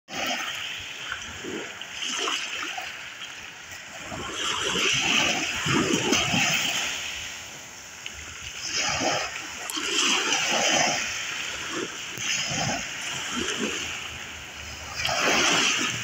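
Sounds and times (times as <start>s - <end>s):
small sea waves lapping: 0.1s - 16.0s.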